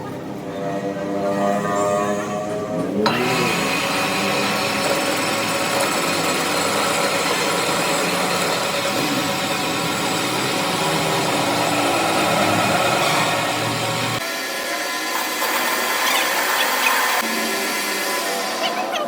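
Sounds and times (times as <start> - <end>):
power tool humming and whirring: 2.8 - 19.0.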